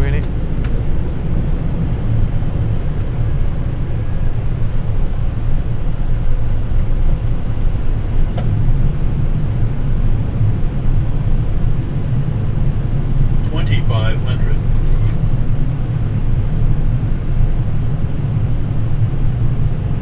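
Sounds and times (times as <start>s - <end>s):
airflow and engine rumble: 0.0s - 20.0s.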